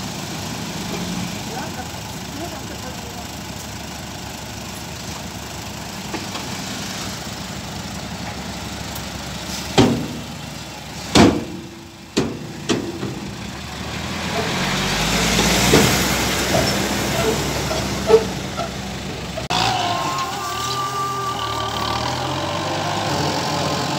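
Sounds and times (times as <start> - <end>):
diesel truck engine running: 0.0 - 23.9.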